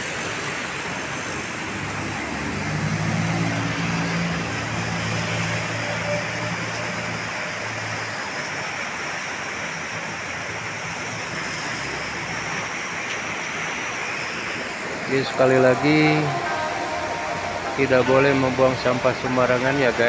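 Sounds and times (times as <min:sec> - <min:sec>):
water rushing: 0:00.0 - 0:20.0
low engine hum: 0:00.1 - 0:20.0.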